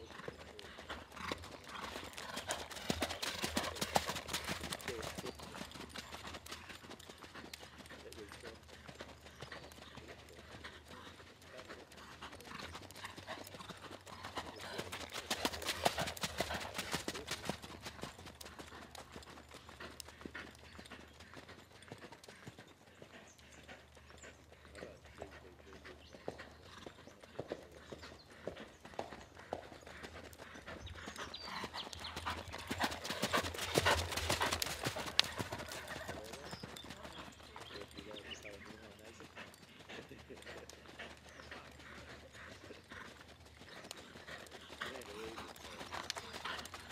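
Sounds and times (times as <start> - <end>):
horse hoofbeats on sand: 0.0 - 46.9.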